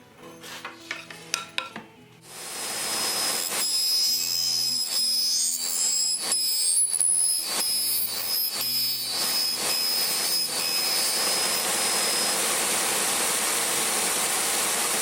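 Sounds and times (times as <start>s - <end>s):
electric power tool whining: 2.3s - 15.0s.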